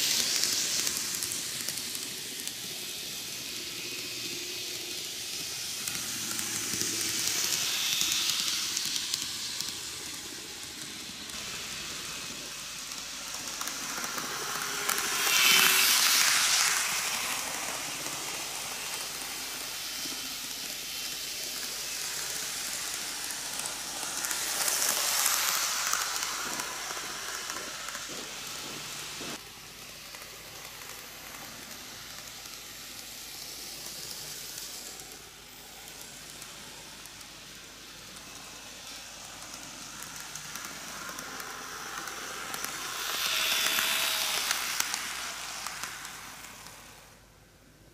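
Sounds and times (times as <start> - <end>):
model train wheels rolling: 0.0 - 47.9.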